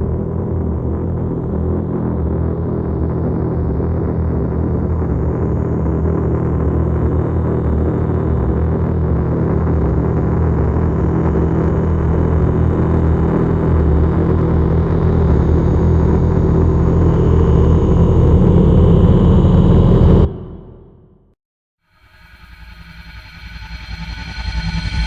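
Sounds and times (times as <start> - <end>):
deep horror drone: 0.0 - 25.0.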